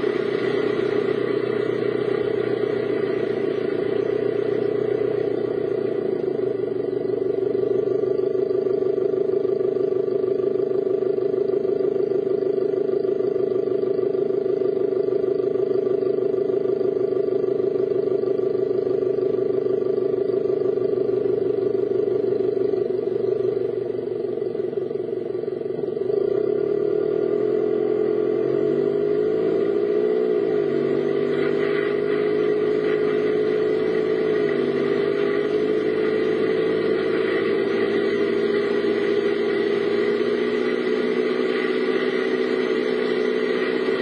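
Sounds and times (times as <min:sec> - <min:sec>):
engine and road drone: 0:00.0 - 0:44.0.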